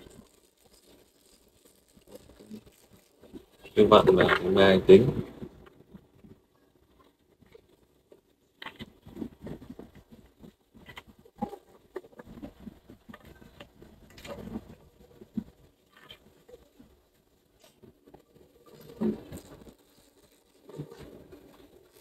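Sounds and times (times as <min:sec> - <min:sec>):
scraping rustles: 0:00.0 - 0:22.0.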